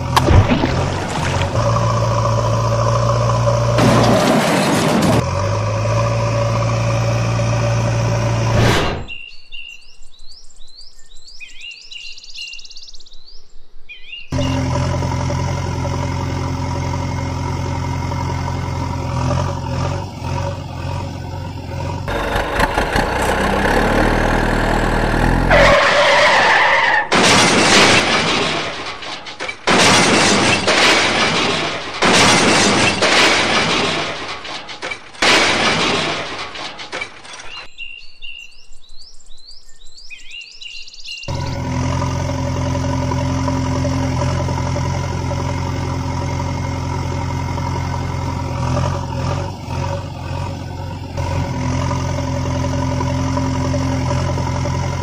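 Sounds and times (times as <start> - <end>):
engine drone: 0.0 - 9.2, 14.3 - 37.7, 41.3 - 55.0.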